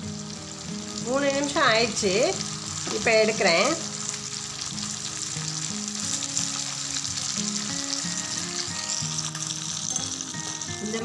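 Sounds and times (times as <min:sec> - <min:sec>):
chicken sizzling in hot oil: 0:00.0 - 0:11.0
soft background music: 0:00.0 - 0:11.0.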